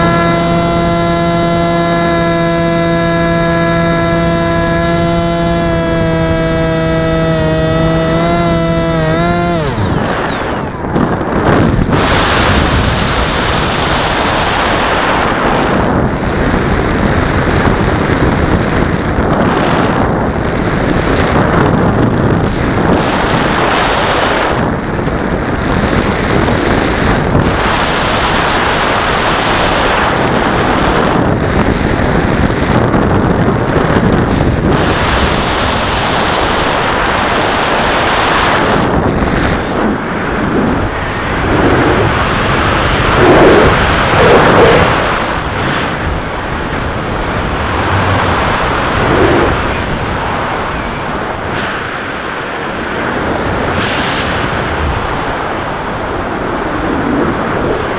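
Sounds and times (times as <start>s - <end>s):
wind rushing over microphone: 0.0s - 57.9s.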